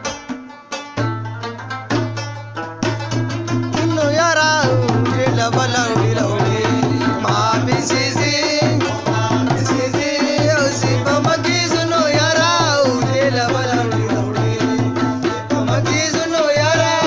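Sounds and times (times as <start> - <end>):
hand drums in quick rhythm: 0.0 - 17.0.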